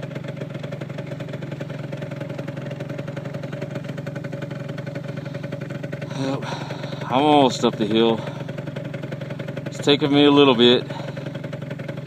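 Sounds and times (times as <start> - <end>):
scooter engine droning: 0.0 - 12.0.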